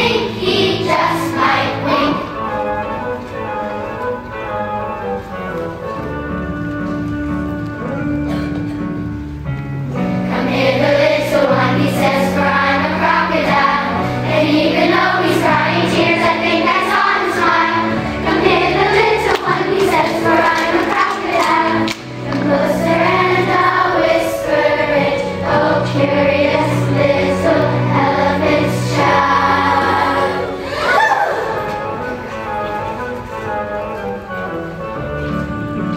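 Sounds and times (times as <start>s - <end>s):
children's choir singing: 0.0s - 8.7s, 10.0s - 35.7s
instrumental accompaniment: 0.0s - 35.9s.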